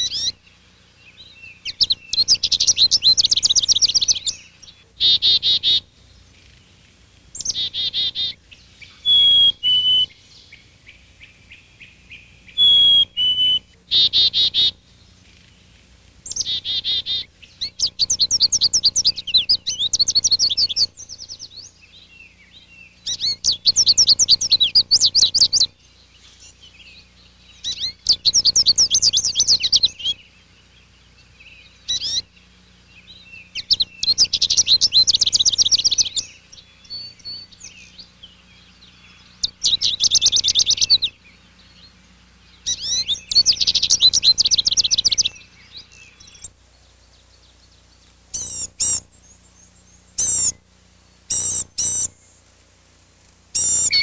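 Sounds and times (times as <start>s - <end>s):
songbirds twittering trills: 0.0s - 54.0s.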